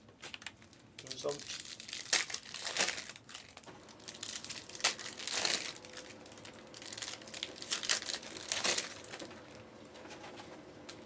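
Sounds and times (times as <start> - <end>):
plastic packaging crinkling: 0.2 - 9.7.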